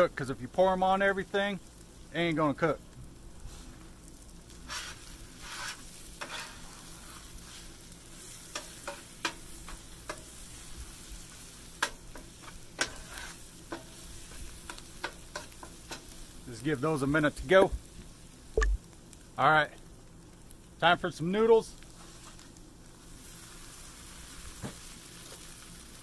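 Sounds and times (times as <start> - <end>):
food sizzling on griddle: 0.0 - 26.0.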